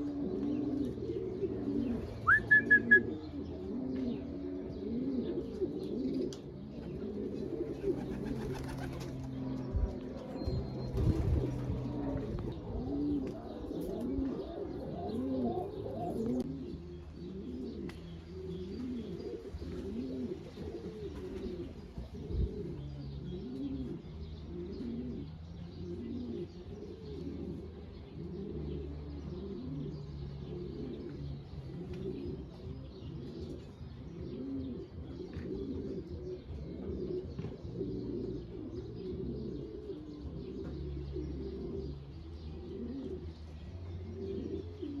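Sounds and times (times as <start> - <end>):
pigeons cooing: 0.0 - 45.0.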